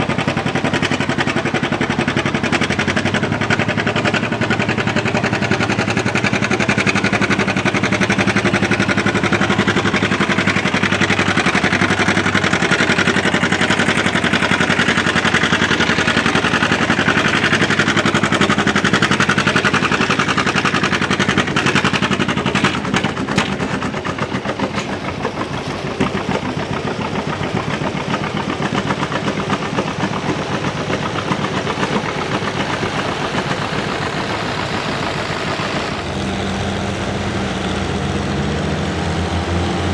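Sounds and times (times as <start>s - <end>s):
tractor engine under full load: 0.0s - 39.9s.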